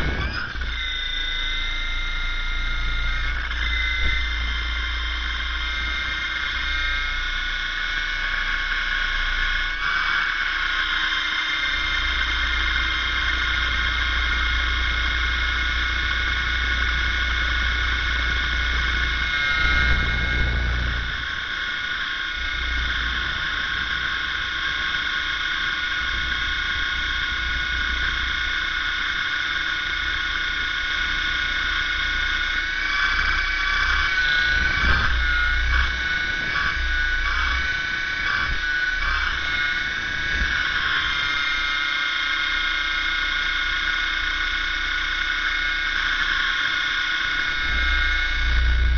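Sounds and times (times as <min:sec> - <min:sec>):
model helicopter motor whine: 0:00.0 - 0:48.9.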